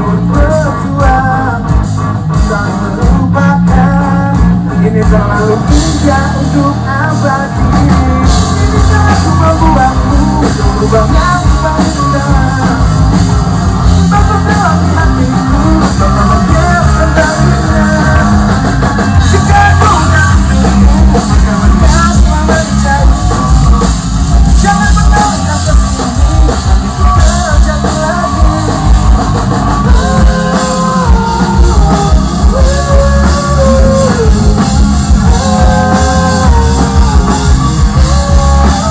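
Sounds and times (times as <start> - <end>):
man singing: 0.0 - 38.9
rock band playing: 0.0 - 38.9.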